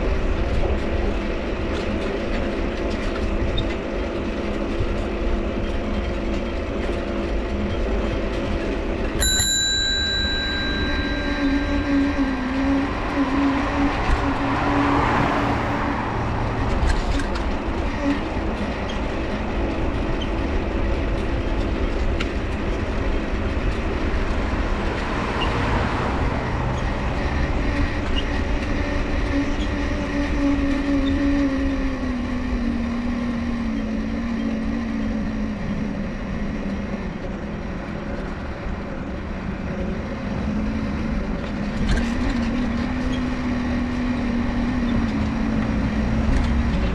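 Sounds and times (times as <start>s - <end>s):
bicycle dynamo humming: 0.0s - 46.9s
tyre and road rumble: 0.0s - 46.9s.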